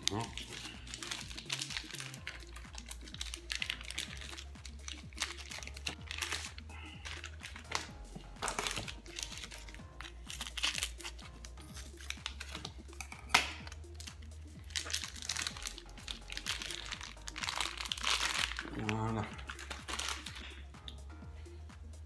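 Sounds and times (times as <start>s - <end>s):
plastic packaging crinkling: 0.0s - 21.0s
scissors cutting wrapper: 0.0s - 21.0s
background music with bass: 0.0s - 22.0s.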